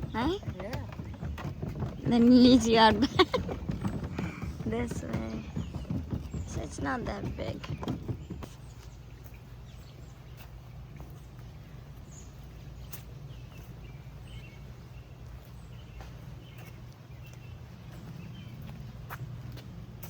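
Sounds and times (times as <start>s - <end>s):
footsteps on garden path: 0.0s - 20.0s
low outdoor rumble: 0.0s - 20.0s.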